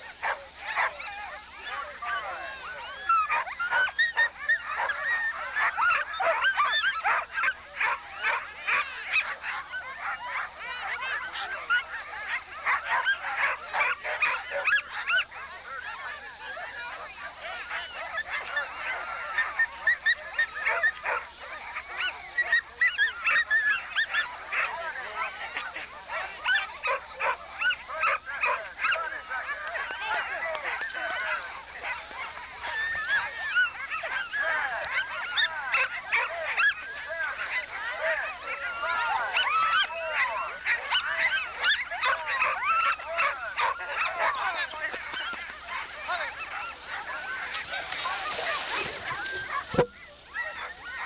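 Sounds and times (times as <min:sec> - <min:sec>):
sled dogs yelping and barking: 0:00.0 - 0:51.0.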